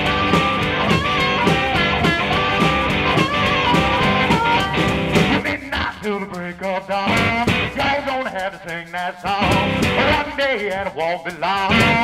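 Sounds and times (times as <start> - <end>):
person singing: 0.0 - 12.0
rock music with guitar: 0.0 - 12.0.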